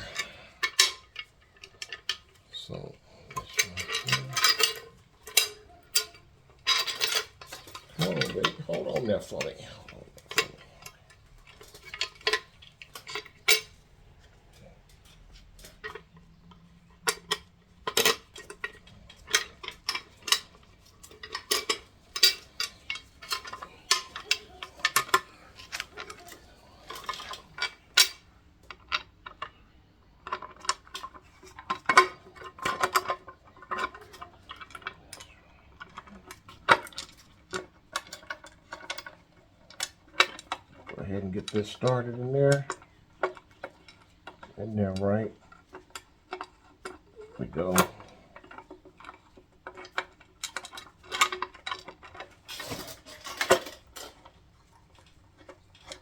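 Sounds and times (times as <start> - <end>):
metal parts clinking: 0.0 - 13.8, 14.9 - 29.5, 30.2 - 56.0.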